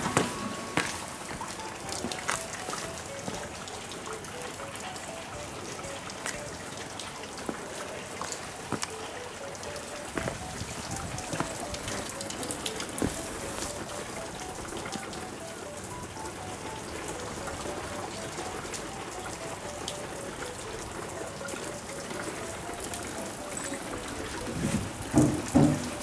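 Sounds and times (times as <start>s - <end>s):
light tune of single notes: 0.0s - 26.0s
water dripping onto wet pavement: 0.8s - 26.0s.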